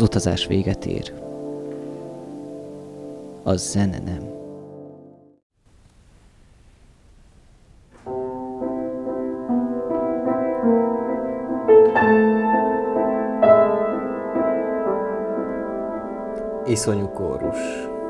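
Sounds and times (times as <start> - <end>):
piano chords: 0.0 - 5.4, 8.0 - 18.0.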